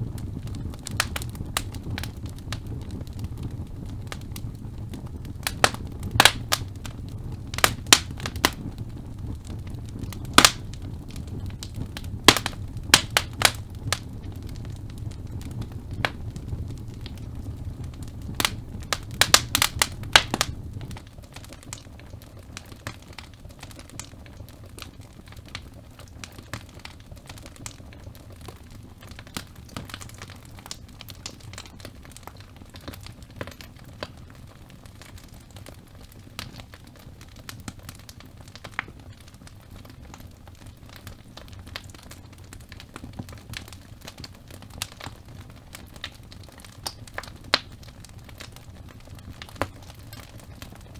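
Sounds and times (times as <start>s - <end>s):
logs crackling and popping: 0.0s - 50.9s
low rumble of flame: 0.0s - 50.9s.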